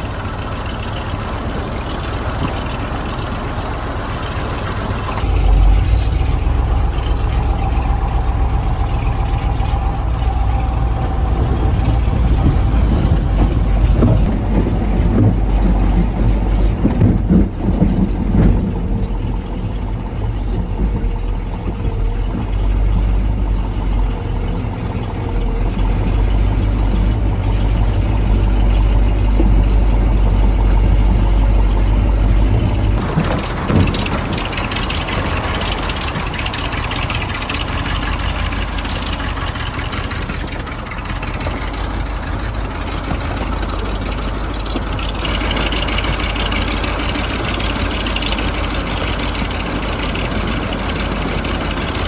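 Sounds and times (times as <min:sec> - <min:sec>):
knocks and rattles: 0:00.0 - 0:23.4, 0:25.2 - 0:52.0
truck diesel engine rumbling: 0:00.0 - 0:52.0.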